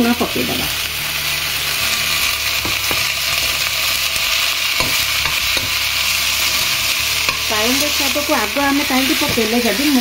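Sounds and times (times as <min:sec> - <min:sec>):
greens sizzling in hot oil: 0:00.0 - 0:10.0.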